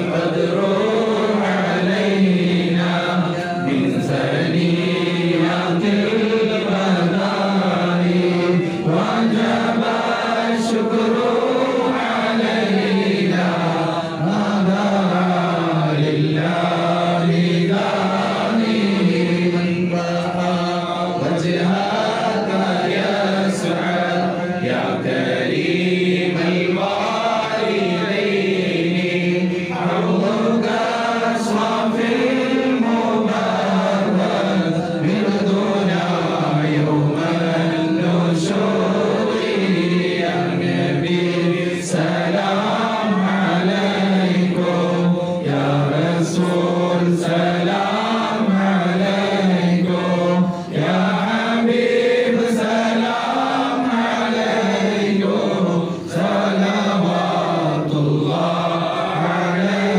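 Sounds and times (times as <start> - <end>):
men chanting a hymn in unison: 0.0 - 59.9.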